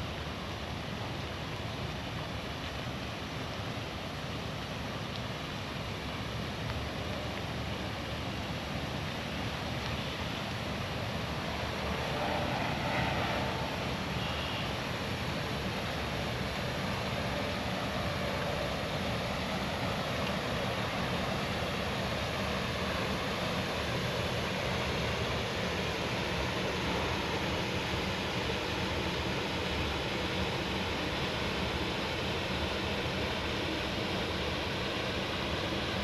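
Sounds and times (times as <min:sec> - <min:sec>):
water rushing over a dam: 0:00.0 - 0:36.0.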